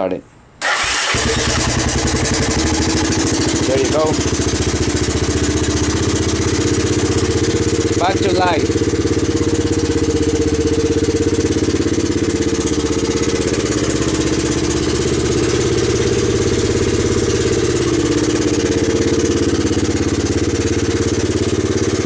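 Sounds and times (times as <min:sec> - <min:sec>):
engine idling: 0:00.6 - 0:22.0.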